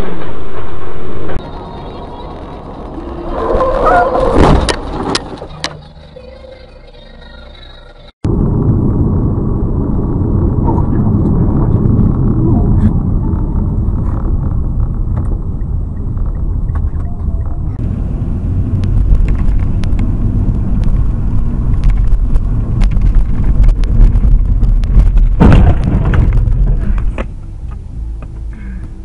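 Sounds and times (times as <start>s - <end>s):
sudden loud noise: 0.0s - 5.5s, 6.6s - 16.3s, 17.5s - 27.2s
vehicle driving rumble: 0.0s - 29.0s.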